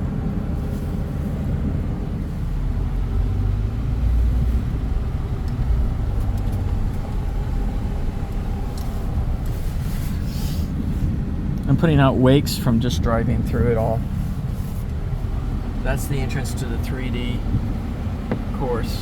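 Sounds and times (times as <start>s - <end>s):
low engine and road rumble: 0.0s - 19.0s
vehicle driving through flood water: 0.0s - 19.0s.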